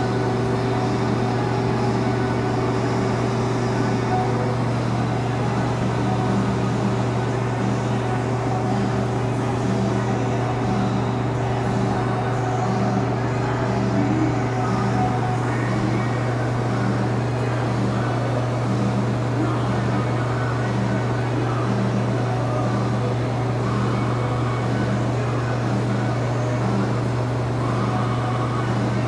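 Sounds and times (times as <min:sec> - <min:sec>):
electric motor humming: 0:00.0 - 0:29.0.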